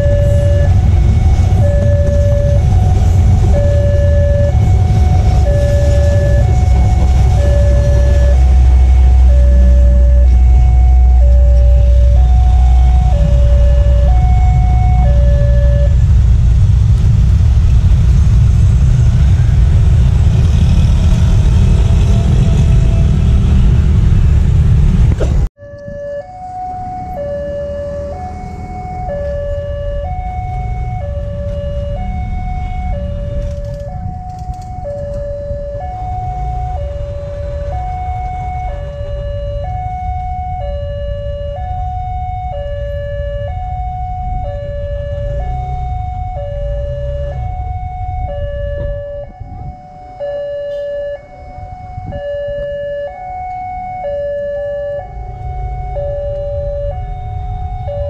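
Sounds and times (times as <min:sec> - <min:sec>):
two-tone crossing alarm: 0:00.0 - 0:16.1, 0:25.6 - 0:58.0
road traffic rumble: 0:00.0 - 0:58.0.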